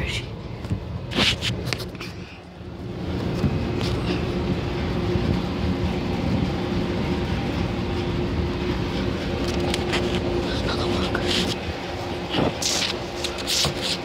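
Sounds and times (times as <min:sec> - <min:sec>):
laundry machines rumbling: 0:00.0 - 0:14.0.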